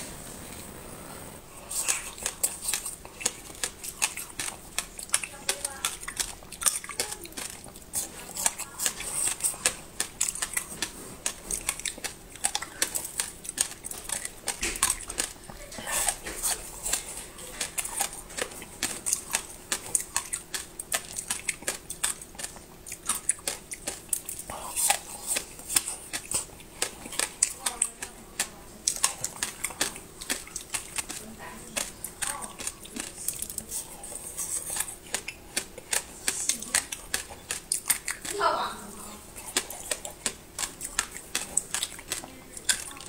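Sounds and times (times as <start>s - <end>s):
crunching frozen ice sticks: 1.6s - 43.0s.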